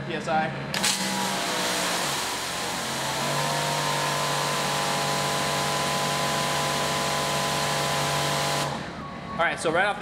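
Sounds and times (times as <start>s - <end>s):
pressure washer running: 0.7s - 8.9s.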